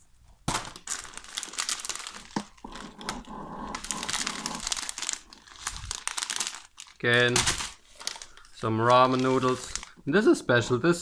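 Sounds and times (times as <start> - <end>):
shopping bag rustling: 0.5 - 9.9
plastic packaging crinkling: 0.5 - 10.3.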